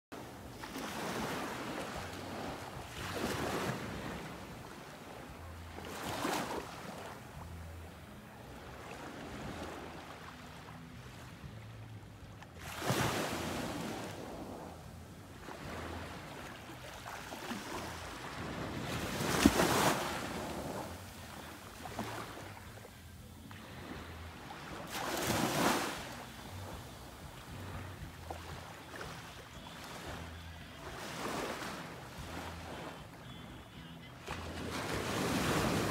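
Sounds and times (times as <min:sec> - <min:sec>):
small waves on sandy beach: 0:00.2 - 0:35.9.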